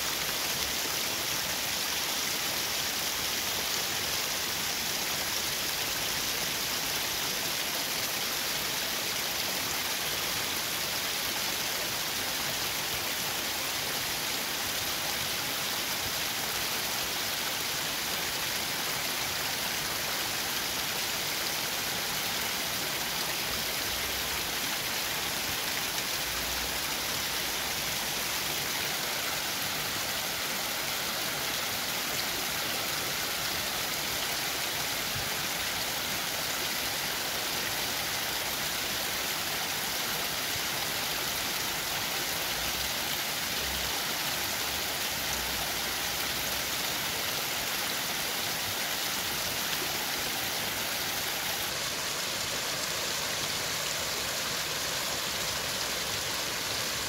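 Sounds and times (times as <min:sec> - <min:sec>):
creek water rushing over rocks: 0:00.0 - 0:57.0.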